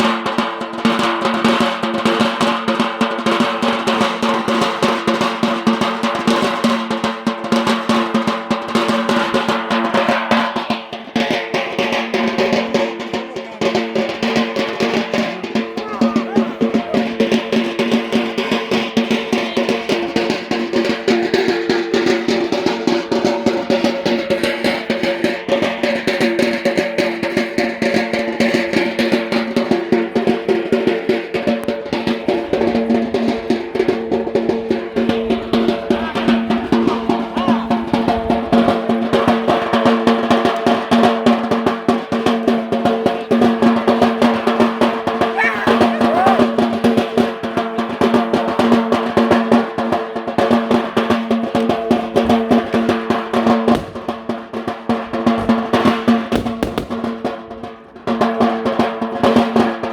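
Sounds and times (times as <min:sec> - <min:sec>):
drums beating fast: 0:00.0 - 0:59.9.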